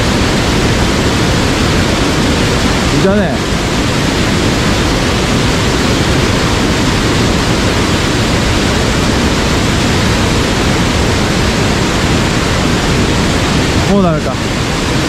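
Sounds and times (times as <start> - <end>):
fast-flowing stream rushing: 0.0 - 15.0.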